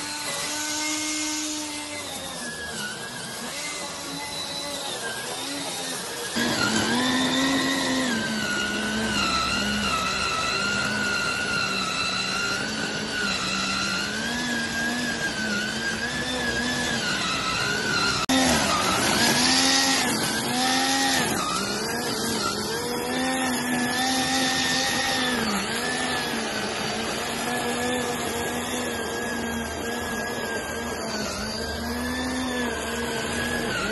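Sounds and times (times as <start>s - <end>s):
weed trimmer motor whining: 0.0s - 33.9s.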